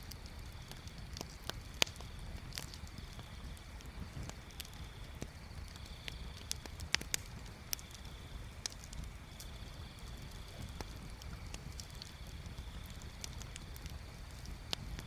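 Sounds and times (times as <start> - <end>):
bonfire crackling: 0.0 - 15.0
burning wood popping: 0.0 - 15.0.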